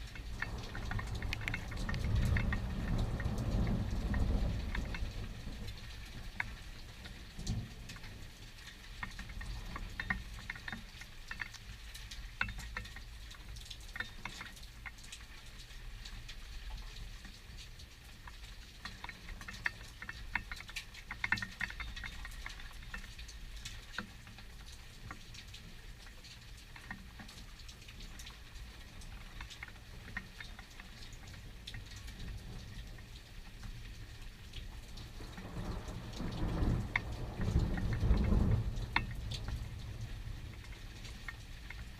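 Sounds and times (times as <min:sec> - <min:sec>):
rain pattering and dripping: 0:00.0 - 0:41.9.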